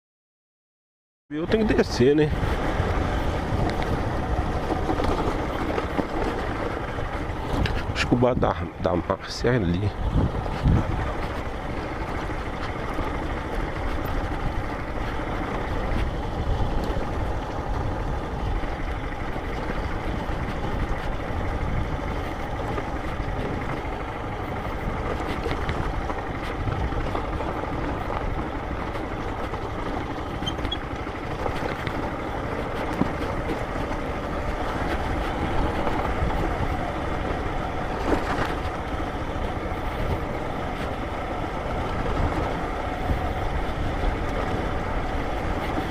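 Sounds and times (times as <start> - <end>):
motorcycle engine running: 1.3 - 45.9
tyre noise on dirt road: 1.3 - 45.9.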